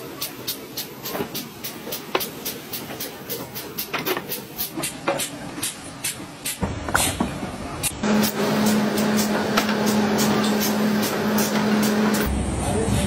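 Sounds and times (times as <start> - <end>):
noisy clatter: 0.2 - 13.0.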